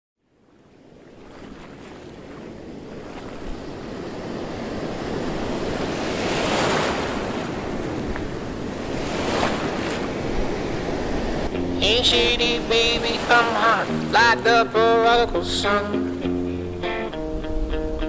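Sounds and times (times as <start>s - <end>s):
wind: 0.2s - 18.0s
sea waves washing: 0.4s - 18.0s.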